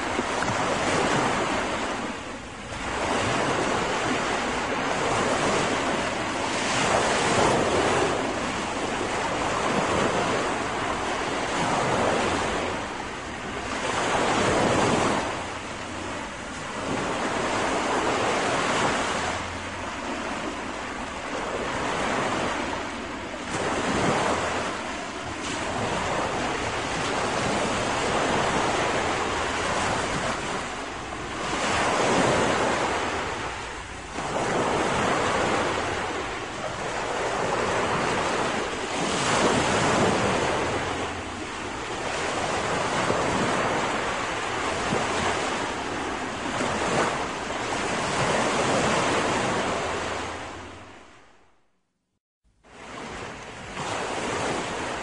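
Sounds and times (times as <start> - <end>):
wind buffeting microphone: 0.0 - 51.0
small waves breaking on shore: 0.0 - 51.5, 52.6 - 55.0.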